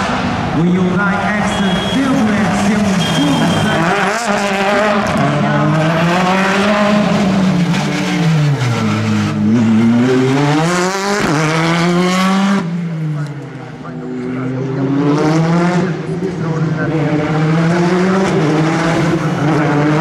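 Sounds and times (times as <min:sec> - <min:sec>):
rally car engine revving hard: 0:02.1 - 0:20.0.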